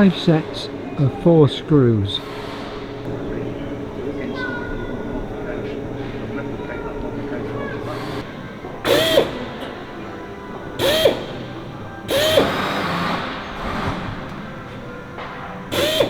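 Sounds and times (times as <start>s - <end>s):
drill drilling through metal: 0.0s - 10.0s, 10.6s - 14.8s, 15.7s - 16.0s.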